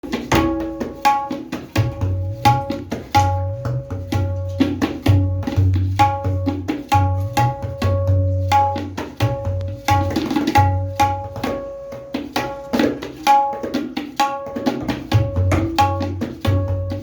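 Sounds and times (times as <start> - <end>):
ringing tabla strokes: 0.0 - 17.0.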